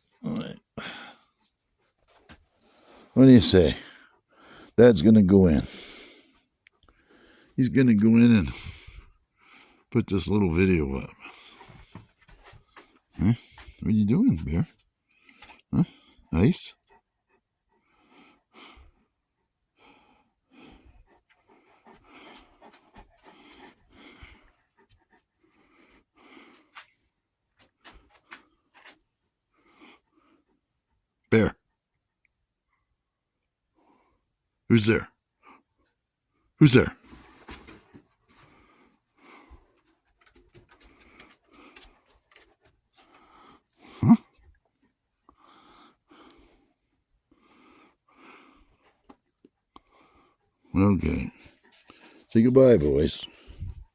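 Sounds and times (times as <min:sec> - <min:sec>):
dog panting: 0:00.9 - 0:06.4, 0:07.0 - 0:29.0, 0:37.0 - 0:53.9.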